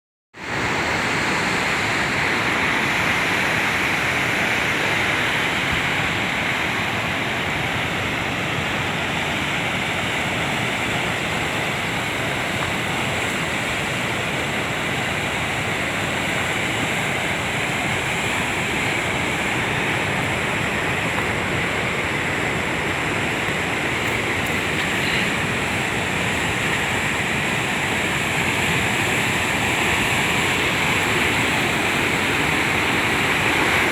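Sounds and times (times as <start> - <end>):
river water rushing: 0.4 - 33.9.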